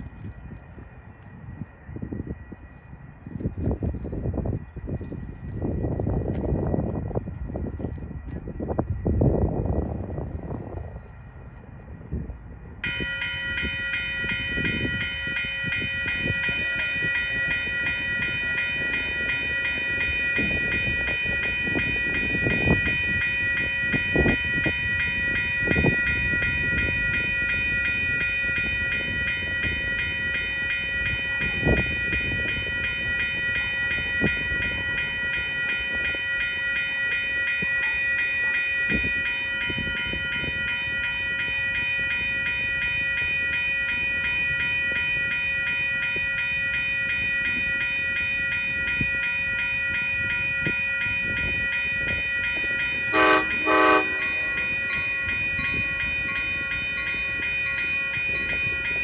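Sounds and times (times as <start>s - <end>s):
railroad crossing bell ringing: 0.0s - 59.0s.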